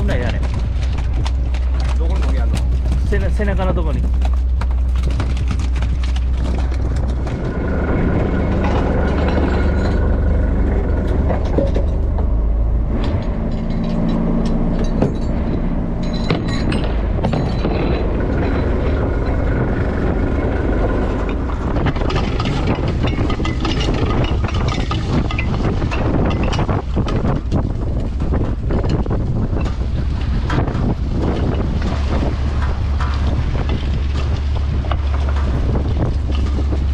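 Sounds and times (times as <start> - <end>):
boat engine droning: 0.0 - 36.9
knocks and clatter: 0.0 - 36.9.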